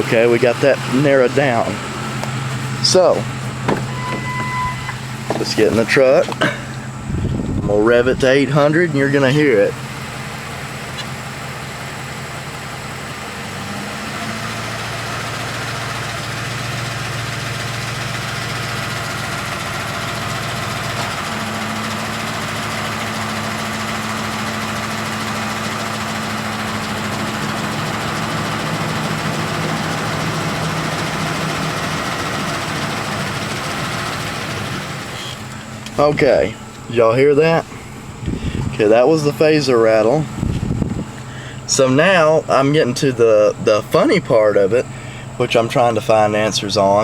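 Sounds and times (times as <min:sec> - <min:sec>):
engine idling with rattling tick: 0:00.0 - 0:47.0.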